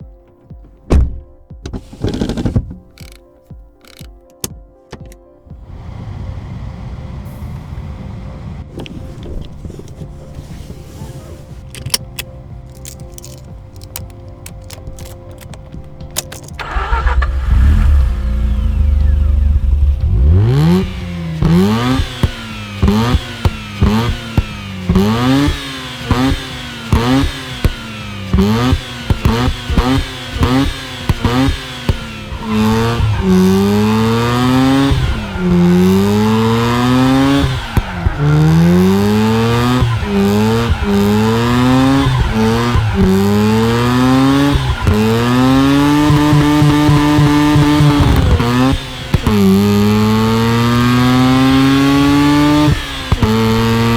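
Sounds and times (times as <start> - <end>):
rotary engine revving: 5.5 - 53.9.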